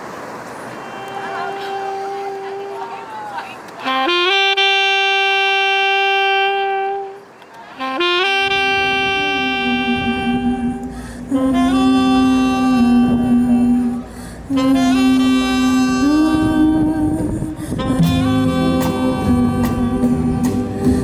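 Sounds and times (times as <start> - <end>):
saxophone playing long notes: 0.8 - 21.0.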